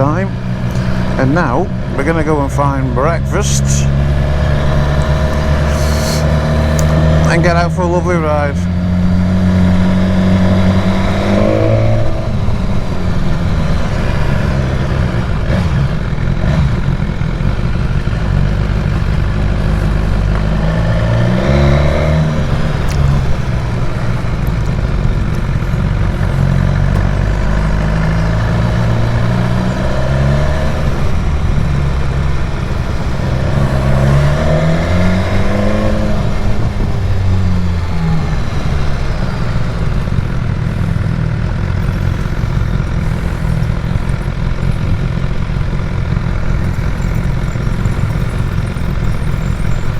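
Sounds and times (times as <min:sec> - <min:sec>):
motorcycle engine accelerating: 0:00.0 - 0:49.9
wind and road noise: 0:00.0 - 0:49.9.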